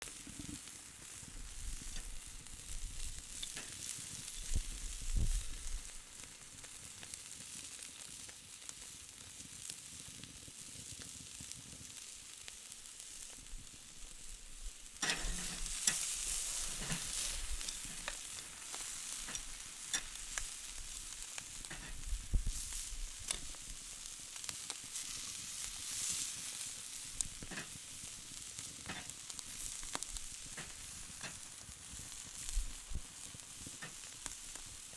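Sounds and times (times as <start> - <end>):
crackles and pops: 0.0 - 34.9
food sizzling on a grill: 0.0 - 34.9.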